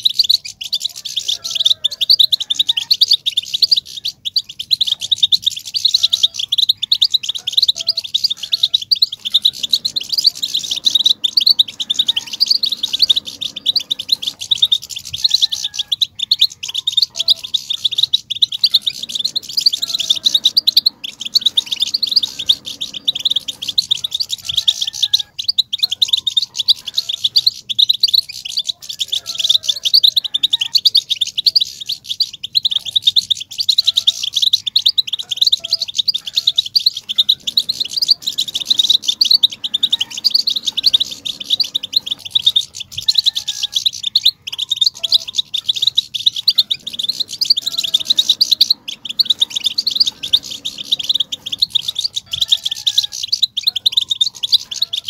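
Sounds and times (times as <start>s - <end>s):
goldfinches twittering: 0.0s - 55.0s.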